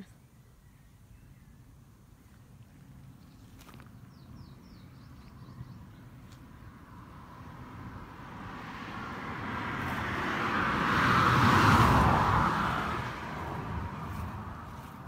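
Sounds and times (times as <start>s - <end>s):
vehicle passing on highway: 2.8s - 15.0s.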